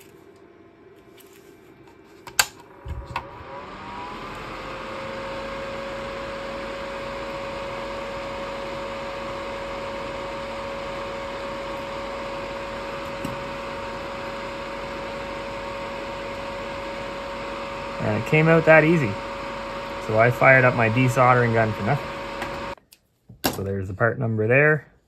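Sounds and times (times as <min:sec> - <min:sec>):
small electric motor humming: 0:02.7 - 0:22.8.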